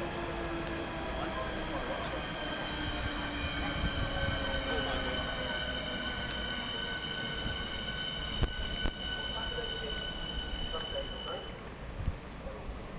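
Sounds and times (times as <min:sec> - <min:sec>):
electric train whine: 0:00.0 - 0:11.9.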